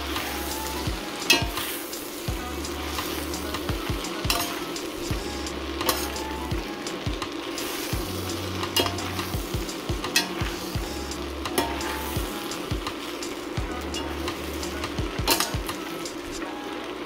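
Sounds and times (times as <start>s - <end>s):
metal utensils clicking on pan: 0.0s - 2.3s, 2.9s - 5.1s, 5.8s - 10.9s, 11.5s - 16.4s
noodles sizzling in a pan: 0.0s - 17.0s.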